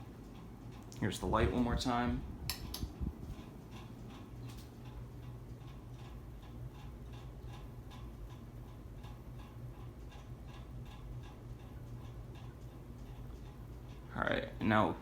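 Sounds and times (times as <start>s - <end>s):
ceiling fan motor hum: 0.0s - 15.0s
fan ticking: 0.0s - 15.0s.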